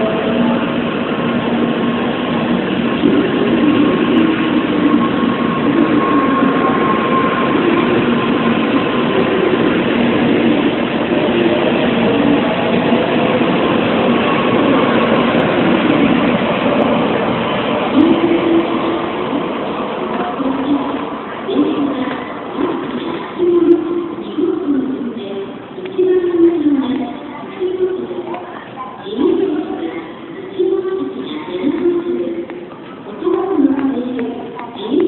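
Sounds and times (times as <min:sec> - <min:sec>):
train rumbling and hissing: 0:00.0 - 0:35.0.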